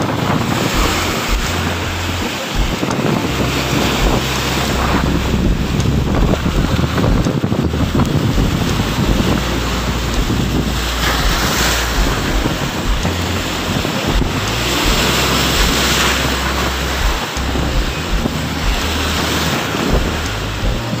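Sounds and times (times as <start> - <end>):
sea waves breaking on rocks: 0.0 - 21.0
wind buffeting microphone: 0.0 - 21.0.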